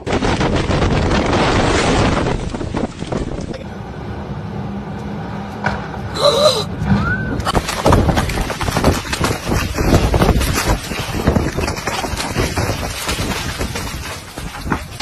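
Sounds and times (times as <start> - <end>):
wind gusting on microphone: 0.0 - 5.5, 6.7 - 15.0.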